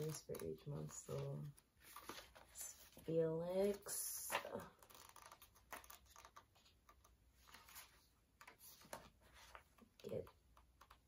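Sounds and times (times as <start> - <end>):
paper pages turning: 0.0 - 9.9.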